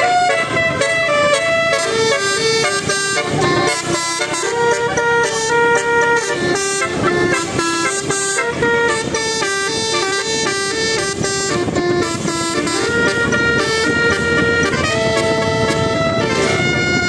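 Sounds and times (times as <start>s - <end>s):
multi-tone air horn playing a tune: 0.0s - 17.0s.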